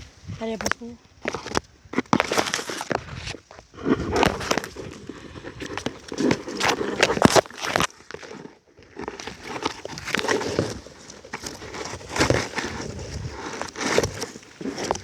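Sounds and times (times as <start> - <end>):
rustling and crunching leaves: 0.0 - 15.0.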